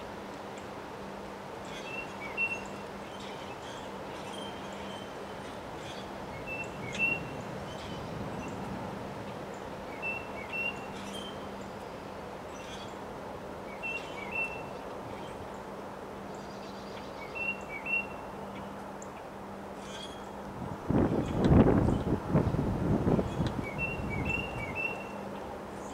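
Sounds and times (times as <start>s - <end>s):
faint steady hum: 0.0s - 25.9s
wind through trees: 0.0s - 25.9s
songbird calling: 1.6s - 20.4s, 21.0s - 25.9s.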